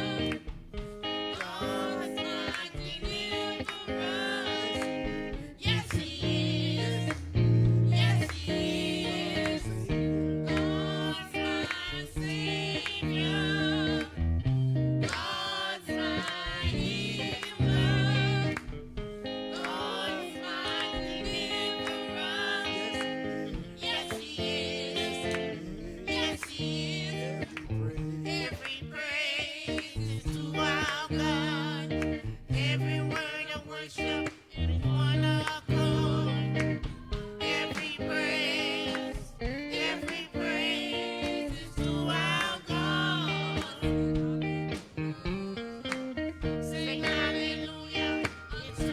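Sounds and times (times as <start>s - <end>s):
person singing with vibrato: 0.0s - 18.6s, 19.3s - 48.9s
guitar and bass: 0.0s - 48.9s.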